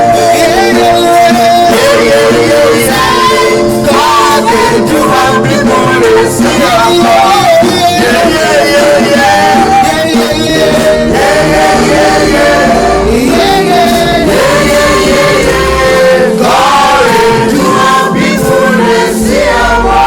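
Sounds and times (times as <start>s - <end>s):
congregation singing a gospel song: 0.0s - 20.0s.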